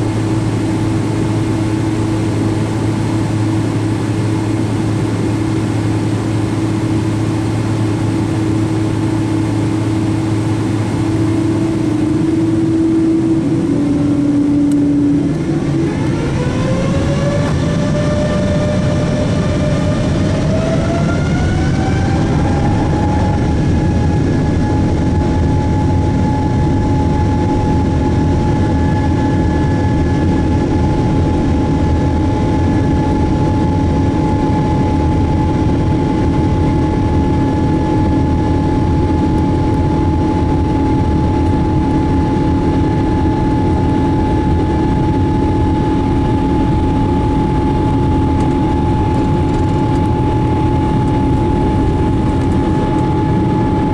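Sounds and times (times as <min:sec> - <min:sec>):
jet engines spooling up: 0:00.0 - 0:53.9.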